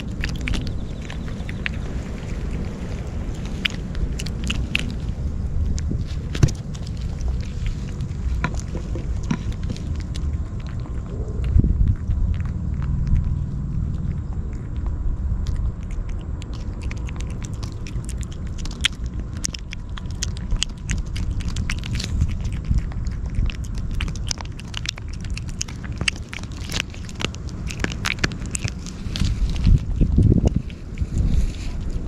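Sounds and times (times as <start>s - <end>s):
kitten licking and chewing: 0.0s - 32.0s
low steady rumble: 0.0s - 32.0s.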